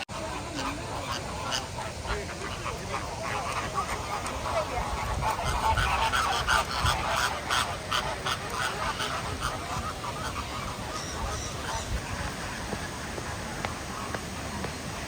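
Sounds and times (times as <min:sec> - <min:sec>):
birds calling: 0:00.0 - 0:15.0
fainter higher bird calls: 0:00.2 - 0:13.0.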